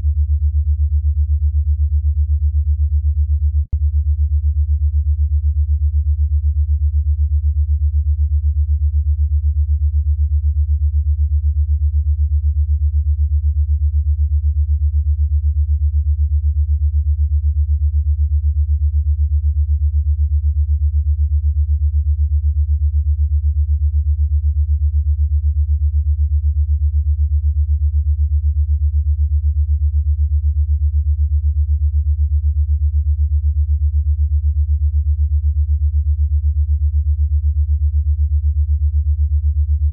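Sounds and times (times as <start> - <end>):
pulsing low synthesized tone: 0.0 - 39.9.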